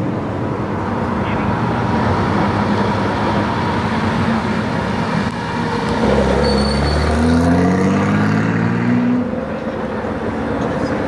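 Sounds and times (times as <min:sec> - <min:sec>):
sports car engines passing: 0:00.0 - 0:11.0.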